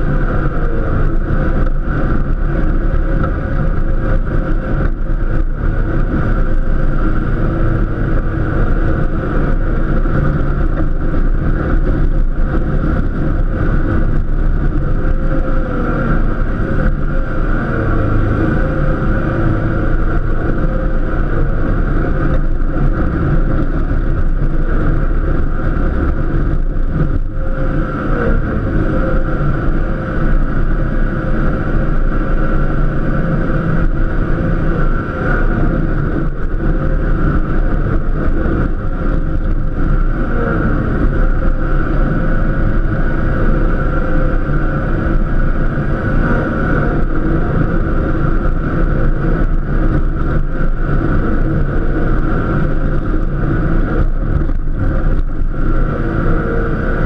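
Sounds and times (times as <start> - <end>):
high whine: 0.0 - 57.0.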